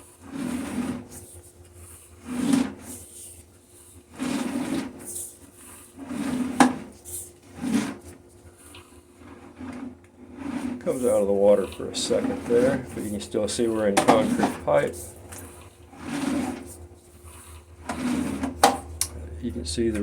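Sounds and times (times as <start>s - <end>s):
cable scraping as pulled back: 0.0s - 20.0s
faint steady hum: 0.0s - 20.0s.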